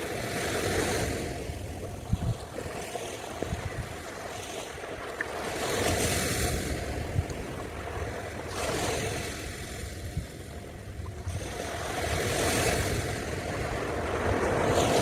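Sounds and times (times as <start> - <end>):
surf washing onto beach: 0.0 - 15.0
wind rumbling on microphone: 0.0 - 15.0.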